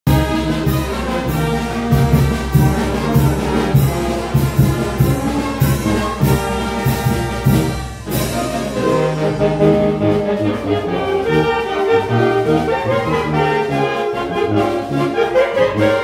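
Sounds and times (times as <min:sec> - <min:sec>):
wind band playing: 0:00.1 - 0:16.0.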